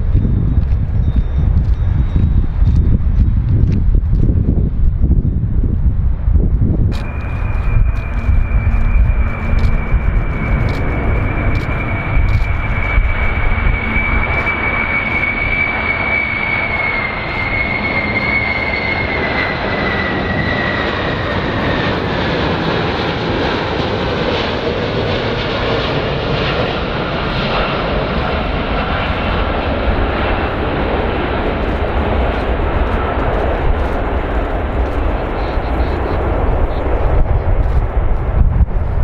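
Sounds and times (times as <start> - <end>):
jet engine rush: 0.0 - 39.0
turbofan whine sliding down: 0.0 - 39.0.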